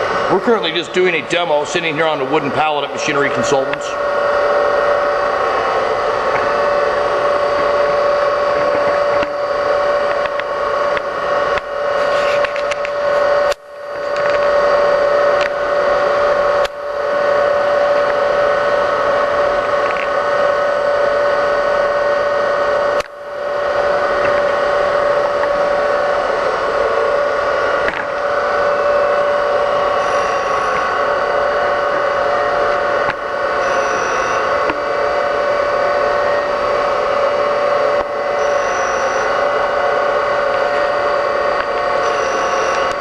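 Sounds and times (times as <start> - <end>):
surface grinder whining: 0.0 - 43.0.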